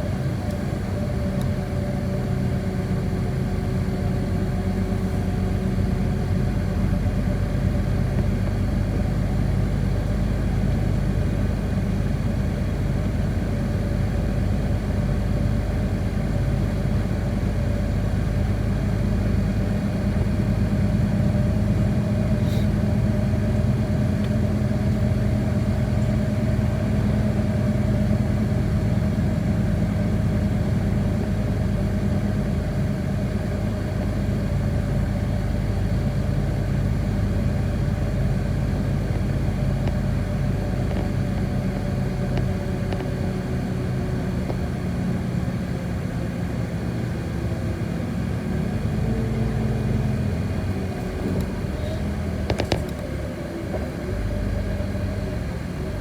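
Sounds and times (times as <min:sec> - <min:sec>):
bus engine droning: 0:00.0 - 0:56.0
drivetrain whine: 0:00.0 - 0:56.0.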